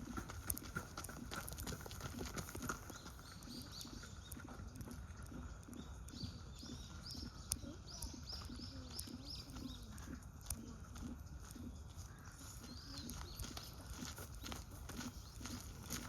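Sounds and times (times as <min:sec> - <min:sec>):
bird chirping: 0:02.2 - 0:16.0.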